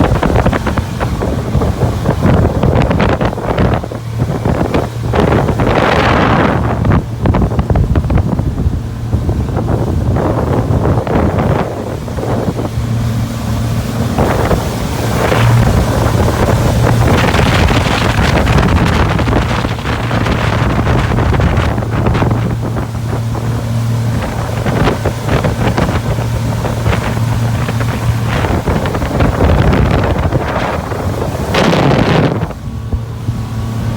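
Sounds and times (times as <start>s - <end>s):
boat engine running: 0.0s - 33.9s
rushing water: 0.0s - 33.9s
wind buffeting microphone: 0.0s - 33.9s.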